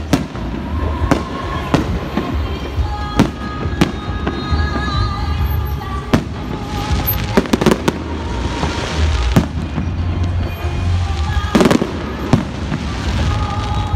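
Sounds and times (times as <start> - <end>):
fireworks exploding: 0.0 - 13.9.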